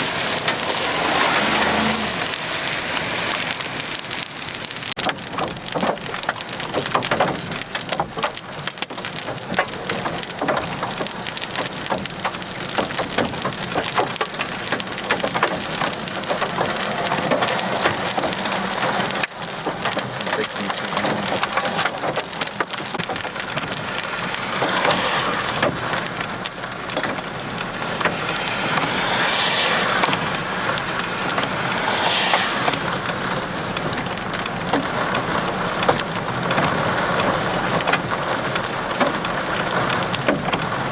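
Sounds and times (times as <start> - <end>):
hail and rain pelting a vehicle: 0.0 - 40.9.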